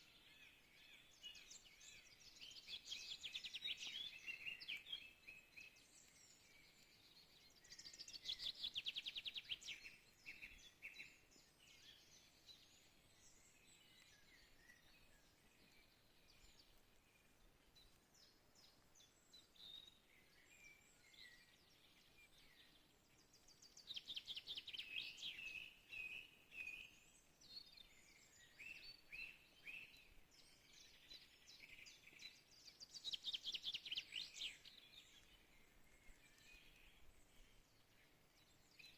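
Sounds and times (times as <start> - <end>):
faint background hiss: 0.0 - 38.9
trilled birdsong: 0.0 - 38.9
bird chirps and calls: 0.1 - 16.8, 23.4 - 38.9.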